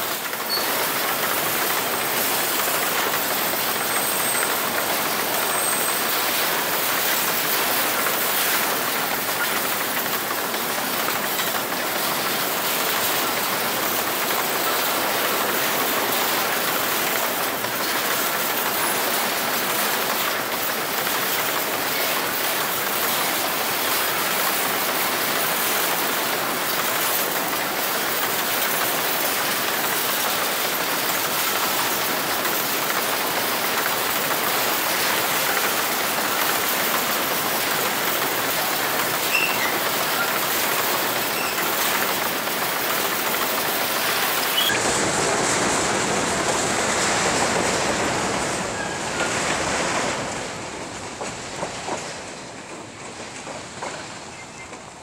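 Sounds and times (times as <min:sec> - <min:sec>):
freight train wheels rolling: 0:00.0 - 0:55.0.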